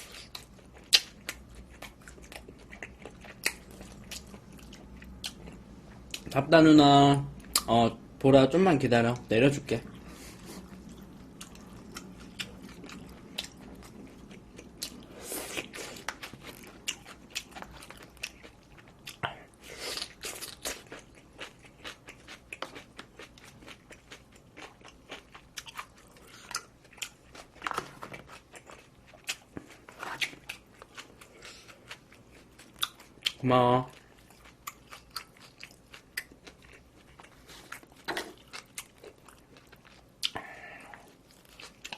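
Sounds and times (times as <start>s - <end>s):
person chewing crunchy food: 0.0s - 6.4s, 9.9s - 41.9s.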